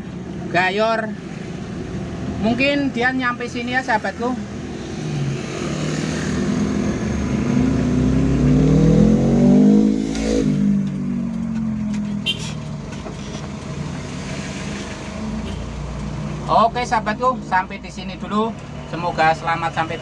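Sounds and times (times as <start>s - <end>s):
road noise: 0.0s - 20.0s
vehicle engine revving: 1.2s - 20.0s.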